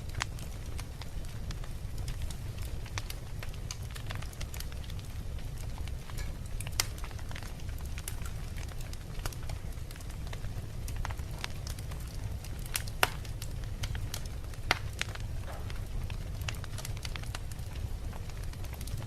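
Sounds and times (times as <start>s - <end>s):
fire rumbling: 0.0s - 19.0s
logs crackling and popping: 0.0s - 19.0s.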